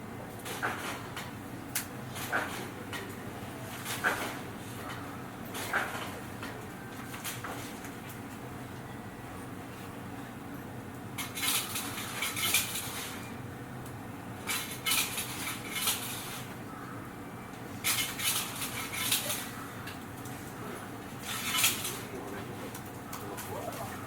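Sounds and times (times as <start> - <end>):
train interior hum: 0.0 - 24.0.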